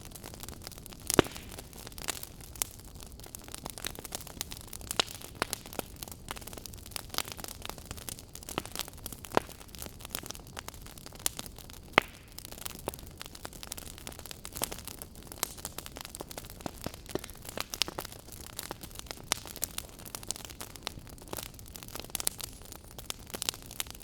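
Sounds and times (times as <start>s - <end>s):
soft hiss of fire: 0.0s - 24.0s
wood fire crackling and popping: 0.0s - 24.0s.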